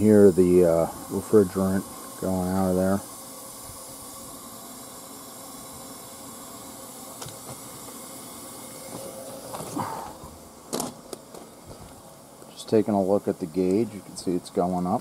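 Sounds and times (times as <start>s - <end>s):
refrigerant hissing: 0.0s - 15.0s.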